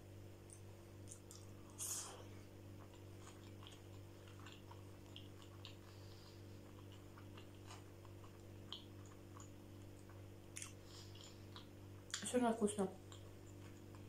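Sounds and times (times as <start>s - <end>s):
person chewing: 0.4s - 12.2s, 13.0s - 14.0s.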